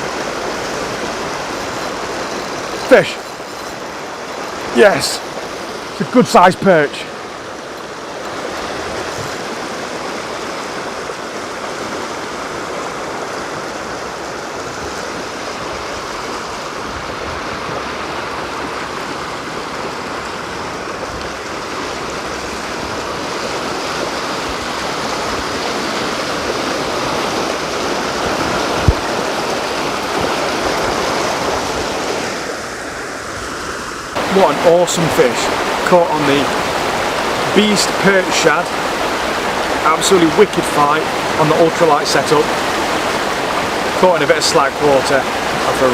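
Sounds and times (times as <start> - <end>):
water rushing over weir: 0.0 - 45.9.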